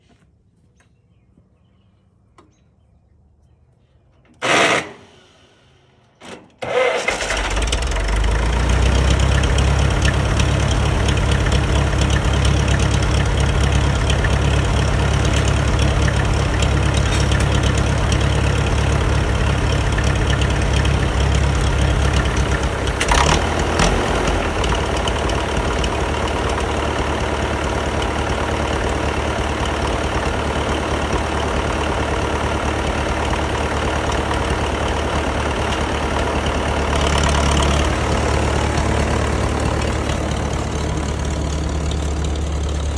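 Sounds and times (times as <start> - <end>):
starter cranking: 6.6 - 42.9
tractor engine running: 6.6 - 42.9.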